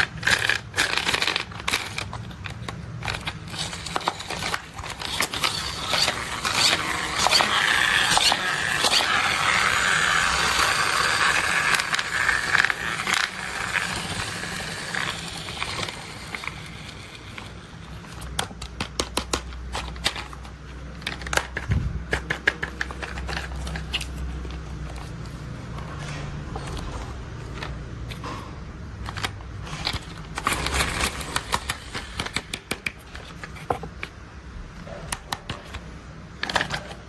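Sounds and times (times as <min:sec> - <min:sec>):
packaging scraping and rustling: 0:00.0 - 0:37.0.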